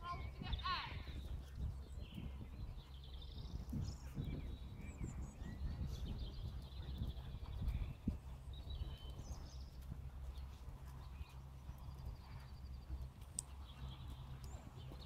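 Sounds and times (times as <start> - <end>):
low steady rumble: 0.0 - 15.0
songbirds chirping: 0.0 - 15.0.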